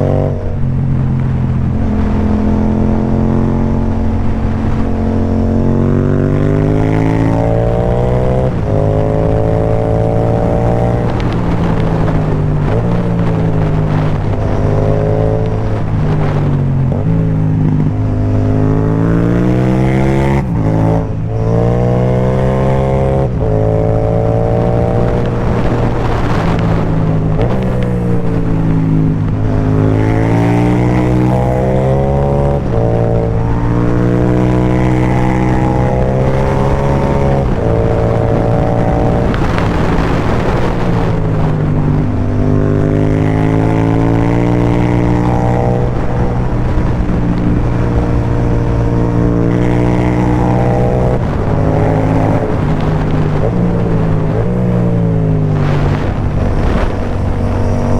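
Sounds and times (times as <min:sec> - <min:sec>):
motorcycle engine accelerating hard: 0:00.0 - 0:57.9.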